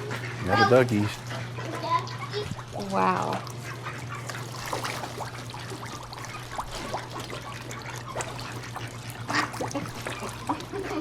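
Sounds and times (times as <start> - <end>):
steady low hum: 0.0 - 11.0
water trickling and splashing: 0.0 - 11.0.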